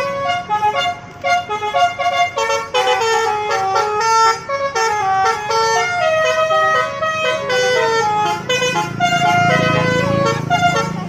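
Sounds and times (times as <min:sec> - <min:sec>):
musical air horn melody: 0:00.0 - 0:11.0.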